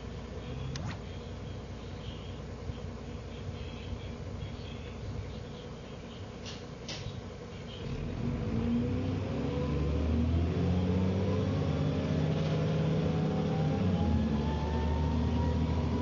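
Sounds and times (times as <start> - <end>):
bus engine running: 0.0 - 16.0.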